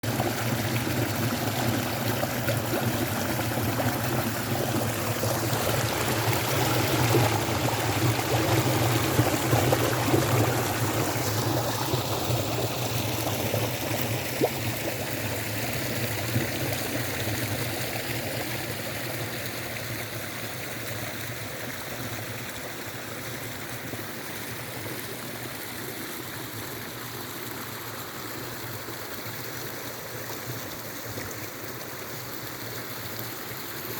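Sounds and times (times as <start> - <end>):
brook flowing and trickling: 0.0 - 33.9.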